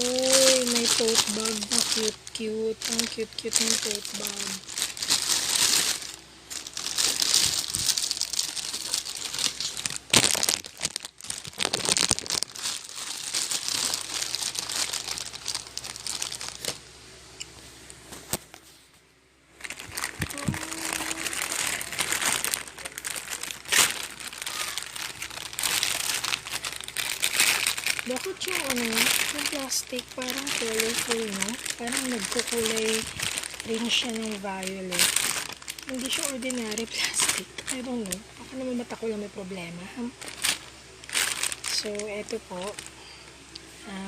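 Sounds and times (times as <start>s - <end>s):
plastic packaging crinkling: 0.0s - 16.9s, 19.6s - 39.1s, 40.0s - 43.7s.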